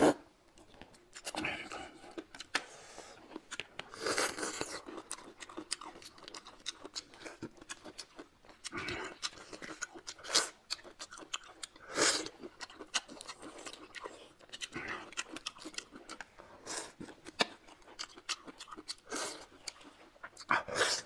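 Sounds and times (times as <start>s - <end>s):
crunchy chewing: 0.6s - 21.0s.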